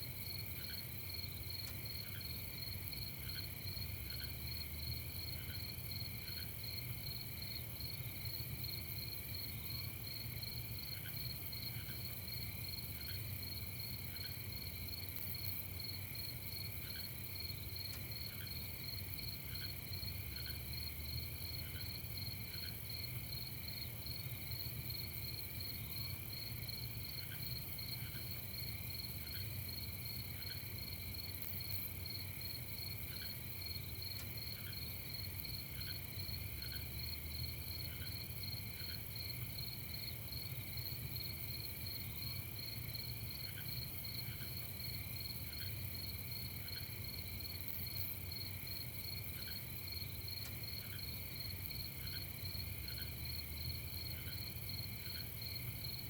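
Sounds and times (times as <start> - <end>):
crickets trilling: 0.2 - 56.0.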